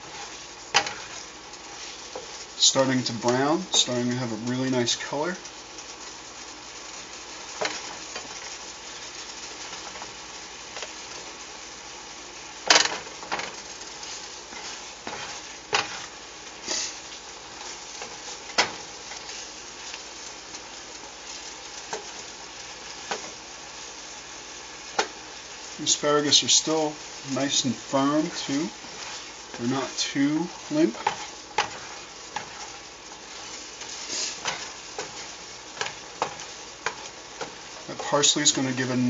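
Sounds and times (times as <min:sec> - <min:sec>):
vegetables sizzling in a pan: 0:00.0 - 0:39.0.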